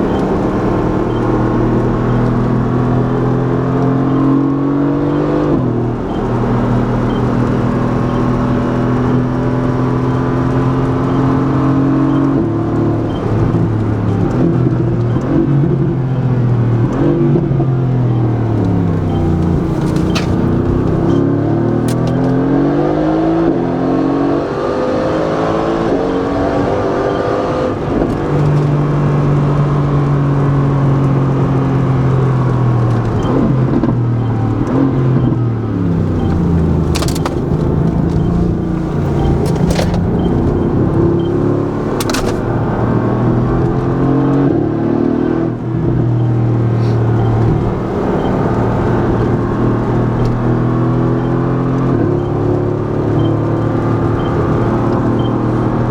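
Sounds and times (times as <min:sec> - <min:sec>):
exhaust cracks: 0:00.0 - 0:04.3, 0:05.4 - 0:22.4, 0:25.9 - 0:44.4, 0:45.8 - 0:55.9
car engine revving: 0:00.0 - 0:55.9.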